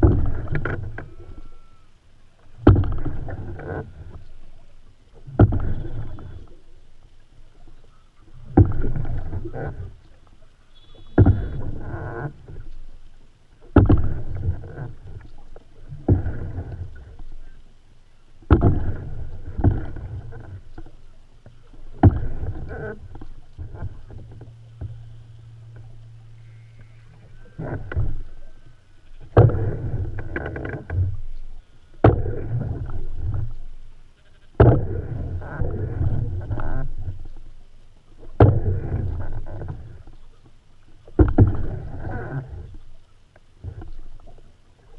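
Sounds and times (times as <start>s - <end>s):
paddle tapping canoe: 0.0s - 1.5s, 2.4s - 44.9s
water swishing and gurgling: 0.0s - 44.9s.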